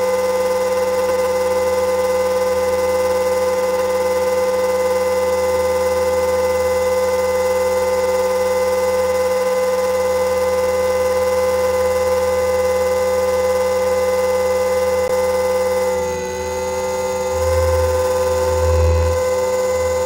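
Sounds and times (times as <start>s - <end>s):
helicopter motor and rotor whine: 0.0s - 20.0s.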